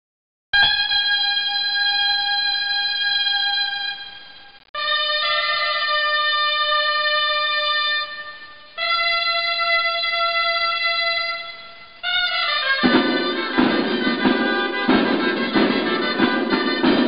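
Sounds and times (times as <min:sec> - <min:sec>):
shawm long held notes: 0:00.6 - 0:17.0.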